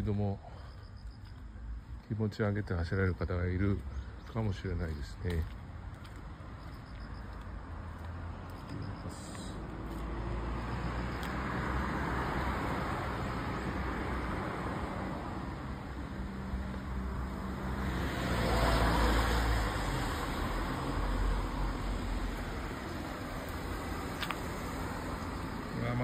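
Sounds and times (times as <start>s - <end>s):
vehicles passing on asphalt: 0.0s - 26.0s.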